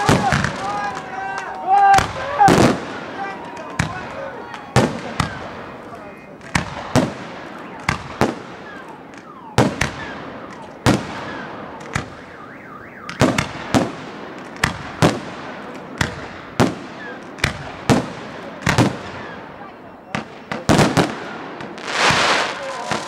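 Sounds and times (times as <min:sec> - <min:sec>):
fireworks bursting with crackle: 0:00.0 - 0:23.0
fireworks whistles: 0:00.0 - 0:23.0.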